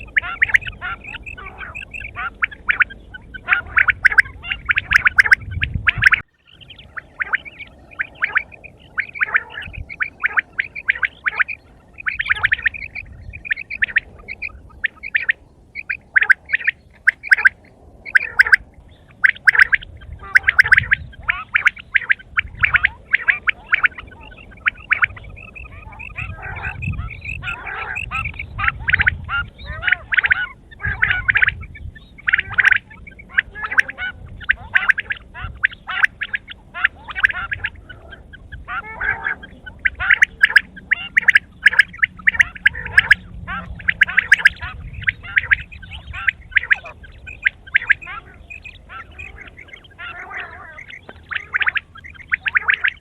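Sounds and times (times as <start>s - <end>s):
quail calling: 0.0s - 53.0s.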